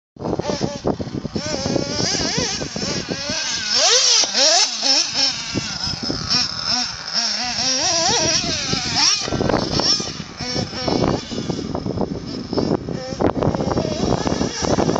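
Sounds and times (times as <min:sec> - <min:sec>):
small nitro engine revving: 0:00.2 - 0:14.9.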